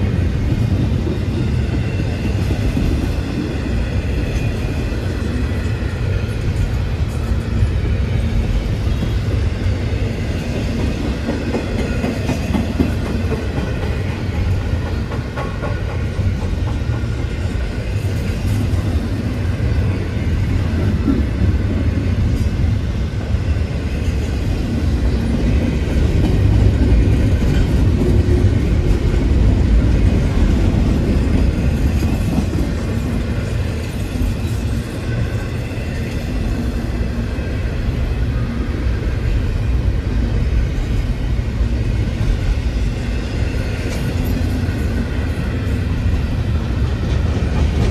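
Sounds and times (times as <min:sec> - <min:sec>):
freight train rumbling: 0:00.0 - 0:47.9.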